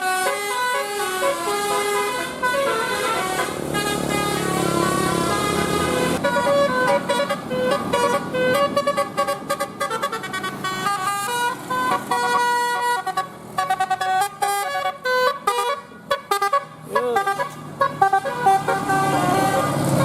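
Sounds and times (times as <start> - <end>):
bus engine rumbling: 0.0 - 20.0
musical air horn playing a tune: 0.0 - 20.0.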